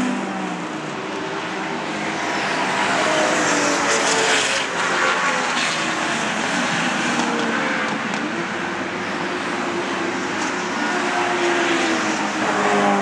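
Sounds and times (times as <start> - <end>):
race car passing at speed: 1.4 - 13.0.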